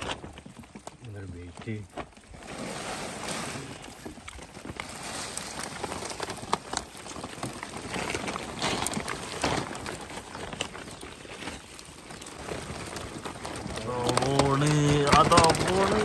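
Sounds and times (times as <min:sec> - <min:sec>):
debris tumbling onto tarpaulin: 0:00.0 - 0:16.0.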